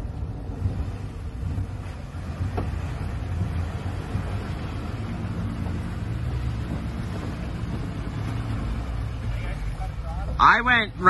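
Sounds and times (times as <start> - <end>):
truck engine rumbling under load: 0.0 - 11.0.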